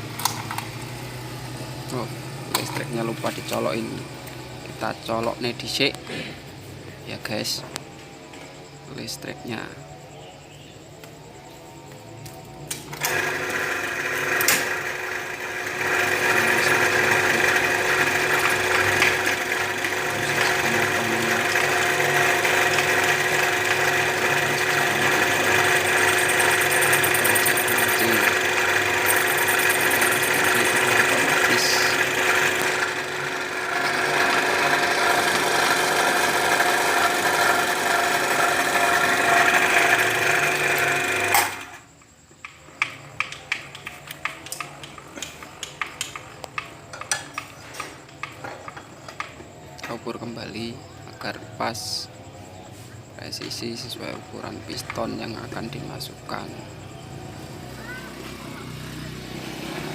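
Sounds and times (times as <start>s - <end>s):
boring machine running: 0.0s - 8.4s, 11.6s - 52.6s, 53.2s - 59.9s.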